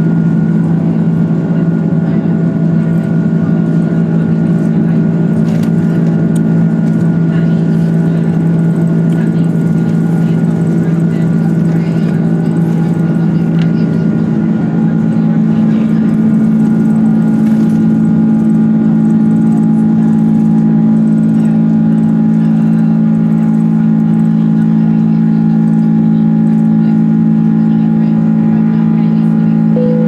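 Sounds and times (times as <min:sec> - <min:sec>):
jet engines humming in cabin: 0:00.0 - 0:30.0.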